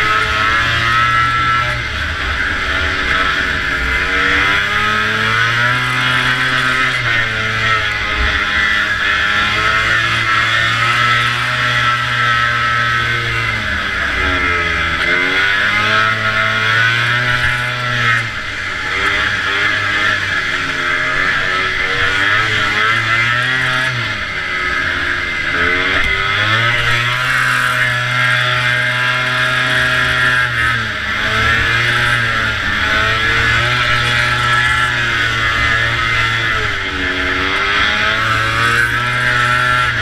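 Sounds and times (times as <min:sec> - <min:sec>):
snowmobile engine at high revs: 0:00.0 - 0:40.0.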